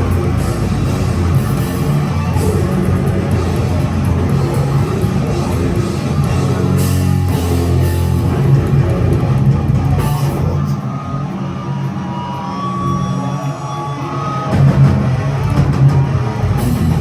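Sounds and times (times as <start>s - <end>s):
death metal band playing live: 0.0s - 17.0s.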